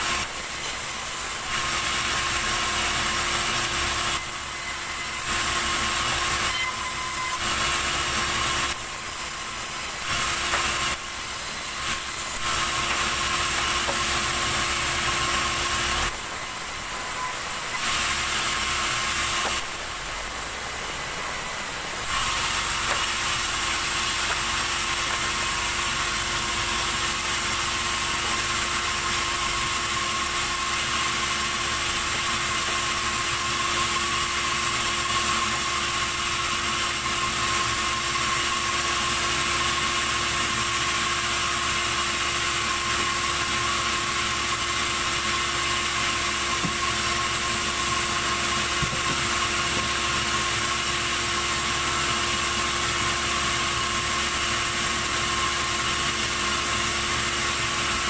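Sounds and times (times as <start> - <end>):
band saw whining: 0.0 - 58.0.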